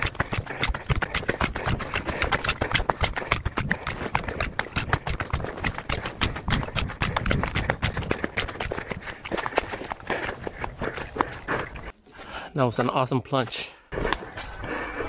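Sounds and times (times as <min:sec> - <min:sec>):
footsteps on sandy leafy trail: 0:00.0 - 0:12.4.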